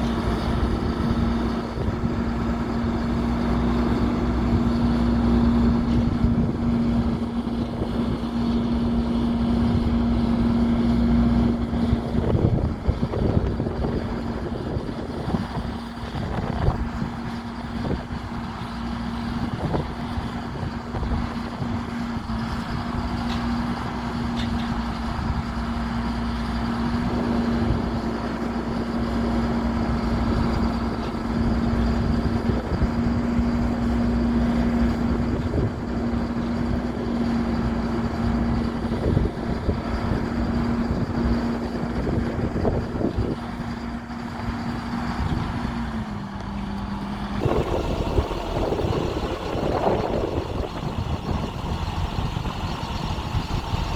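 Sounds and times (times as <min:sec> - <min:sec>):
diesel truck engine rumble: 0:00.0 - 0:53.9.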